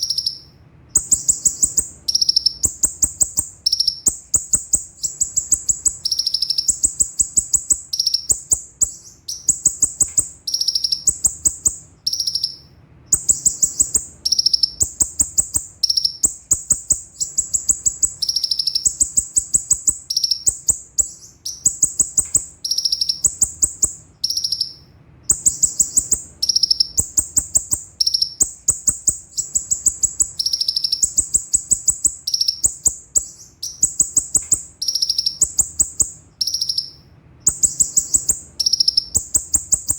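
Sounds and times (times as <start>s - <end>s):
sunbird trilling: 0.0s - 39.9s.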